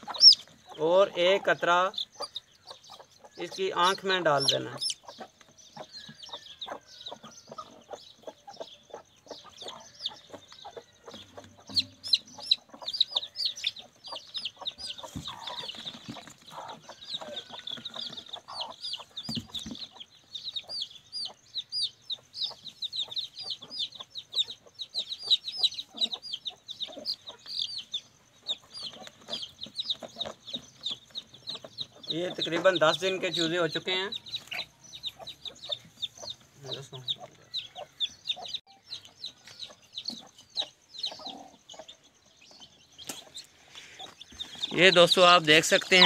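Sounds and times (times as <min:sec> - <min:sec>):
chicks peeping shrilly: 0:00.0 - 0:46.0.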